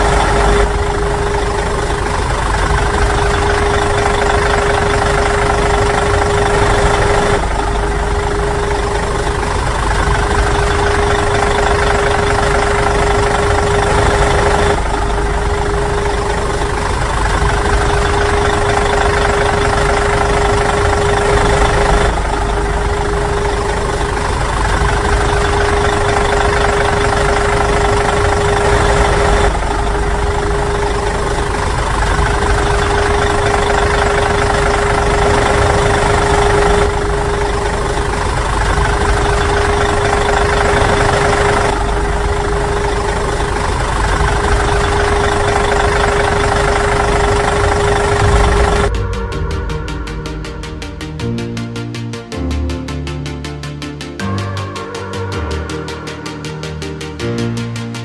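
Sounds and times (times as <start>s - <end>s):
engine-like humming: 0.0s - 58.0s.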